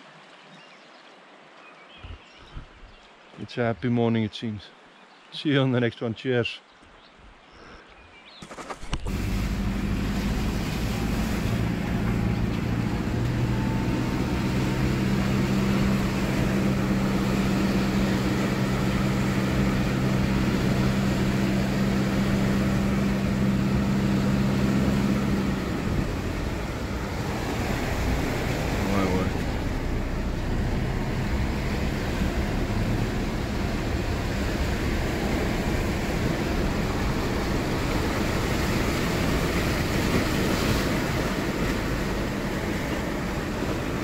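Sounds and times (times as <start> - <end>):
road rushing noise: 8.4 - 44.0
vehicle engine hum: 8.4 - 44.0.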